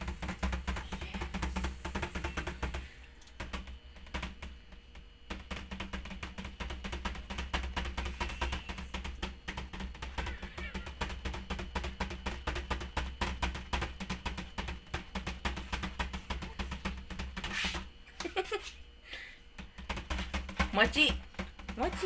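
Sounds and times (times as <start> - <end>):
puppy claws clicking on tiles: 0.0 - 18.8, 19.6 - 22.0.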